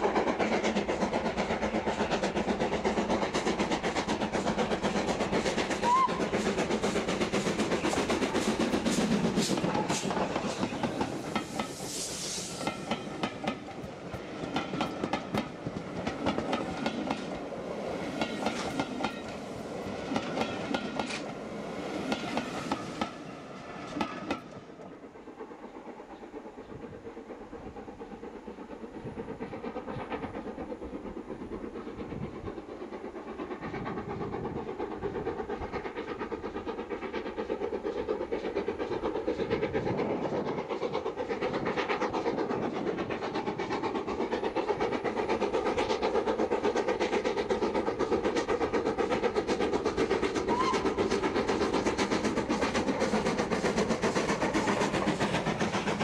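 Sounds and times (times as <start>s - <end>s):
distant steam train exhaust beats: 0.0s - 56.0s
steam locomotive exhaust: 0.0s - 56.0s
train wheels clicking over rail joints: 0.0s - 56.0s.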